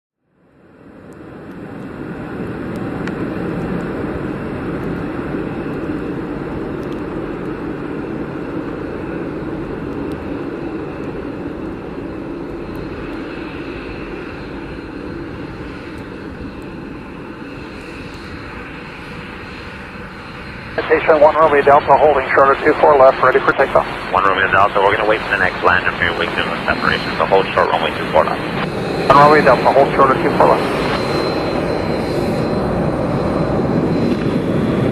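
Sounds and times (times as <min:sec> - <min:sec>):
high turbine whine: 0:00.4 - 0:34.9
jet engines rumbling: 0:00.4 - 0:34.9.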